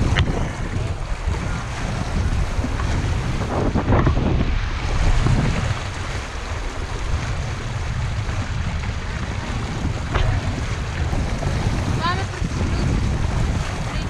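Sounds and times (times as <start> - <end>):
water washing along hull: 0.0 - 14.0
wind buffeting microphone: 0.0 - 14.0.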